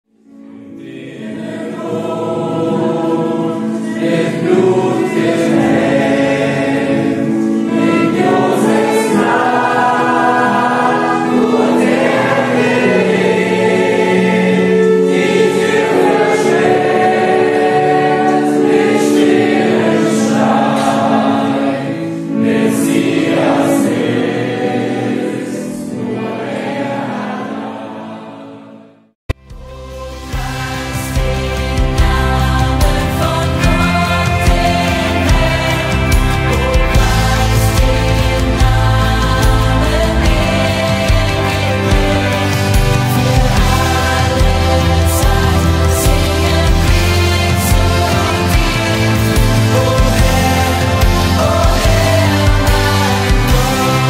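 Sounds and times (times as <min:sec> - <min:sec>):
group singing a hymn: 0:00.3 - 0:54.0.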